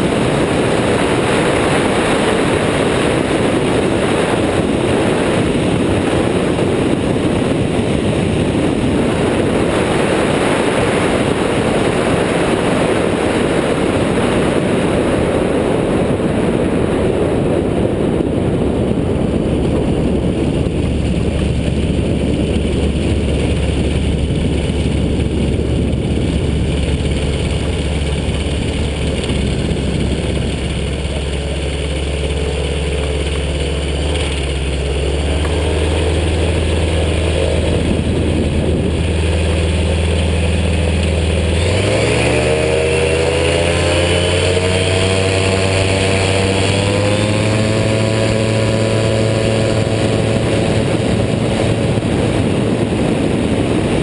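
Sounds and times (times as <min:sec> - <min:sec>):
aircraft engine and propeller: 0:00.0 - 0:54.0
wind rushing over microphone: 0:00.0 - 0:54.0.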